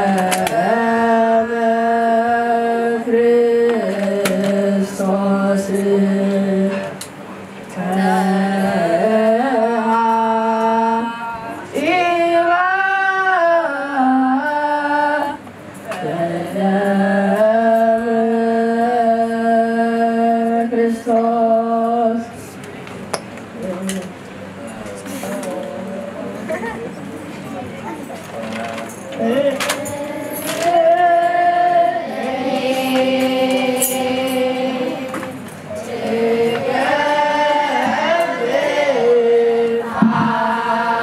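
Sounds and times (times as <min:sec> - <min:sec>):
choir singing a hymn: 0:00.0 - 0:07.0, 0:07.7 - 0:22.3, 0:29.2 - 0:41.0.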